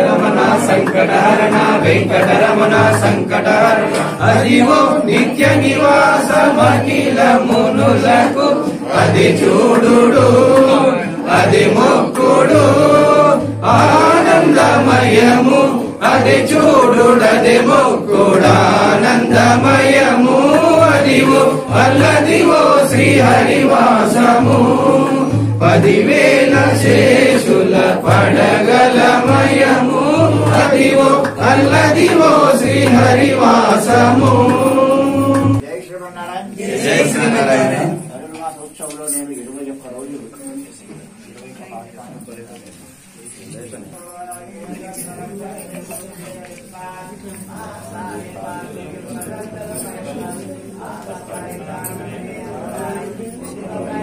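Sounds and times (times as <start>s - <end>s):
men singing a hymn: 0.0s - 35.7s, 36.5s - 38.1s, 44.6s - 54.0s.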